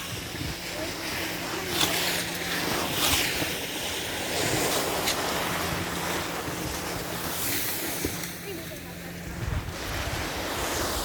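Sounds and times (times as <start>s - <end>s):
wind rushing over microphone: 0.0s - 8.3s, 9.0s - 11.0s.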